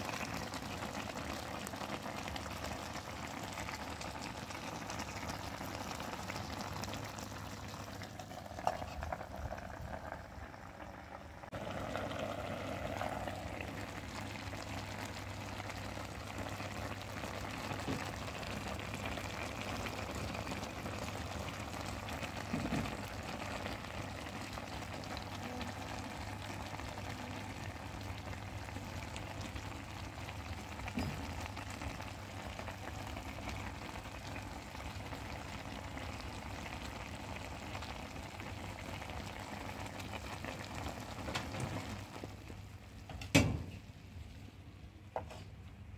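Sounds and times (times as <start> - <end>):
curry bubbling and sizzling: 0.0 - 44.8.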